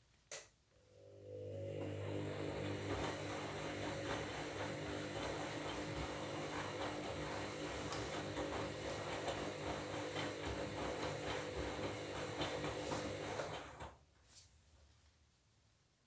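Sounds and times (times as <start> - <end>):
washing machine motor hum: 0.9 - 14.0.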